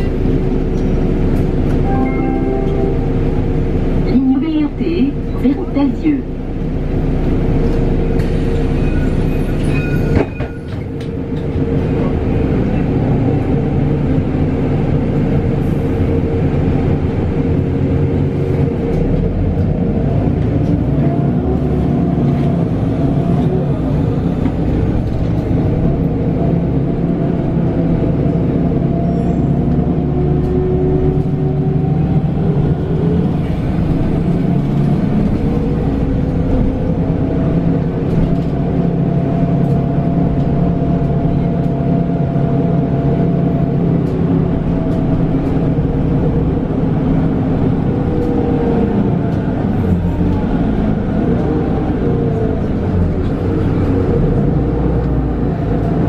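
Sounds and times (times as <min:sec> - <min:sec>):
bus engine droning: 0:00.0 - 0:56.0.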